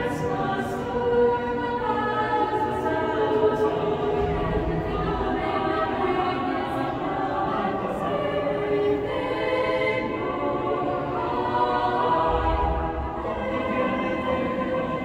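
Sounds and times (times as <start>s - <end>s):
mixed choir singing in harmony: 0.0s - 15.0s.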